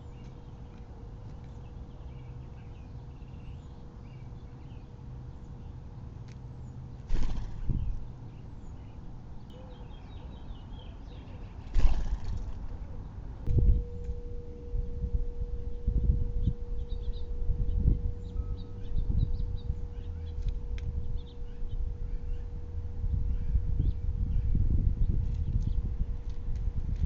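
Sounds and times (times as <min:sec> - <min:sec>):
small birds chirping: 0:00.0 - 0:14.1, 0:15.5 - 0:25.9
low background hum: 0:00.0 - 0:27.0.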